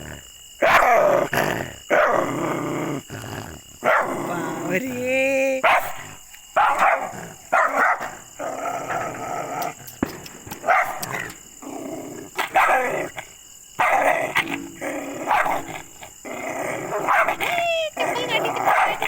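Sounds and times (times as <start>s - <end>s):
dog growling: 0.0s - 5.1s, 5.8s - 19.0s
dog barking aggressively: 0.6s - 2.4s, 3.8s - 4.7s, 5.6s - 19.0s.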